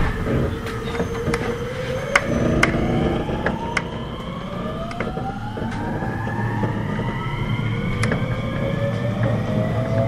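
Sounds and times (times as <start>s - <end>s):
electric train motor whine rising: 0.0s - 10.0s
train rumbling running noise: 0.0s - 10.0s.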